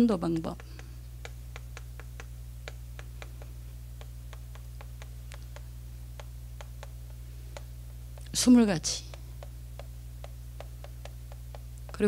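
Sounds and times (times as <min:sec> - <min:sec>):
chalk tapping on chalkboard: 0:00.0 - 0:12.0
steady low hum: 0:00.0 - 0:12.0.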